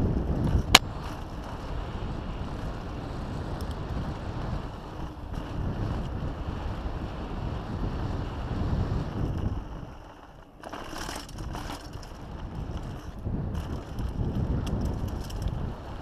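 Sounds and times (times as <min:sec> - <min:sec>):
bike tyres rumbling over ground: 0:00.0 - 0:16.0
wind rushing over microphone: 0:00.0 - 0:16.0.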